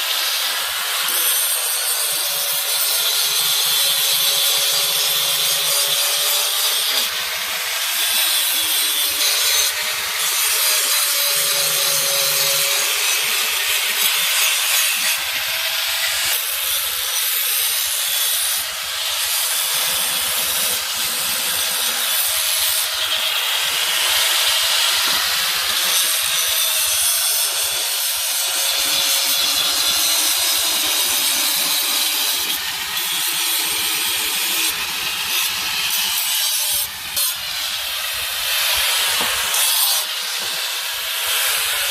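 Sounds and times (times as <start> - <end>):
power tool grinding steel: 0.0 - 41.9.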